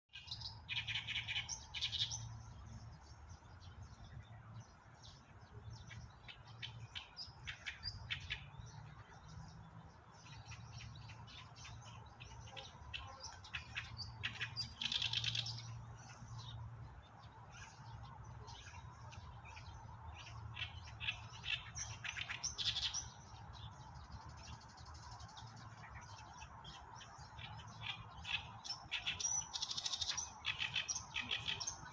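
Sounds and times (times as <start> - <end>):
birds chirping and calling: 0.1 - 31.9.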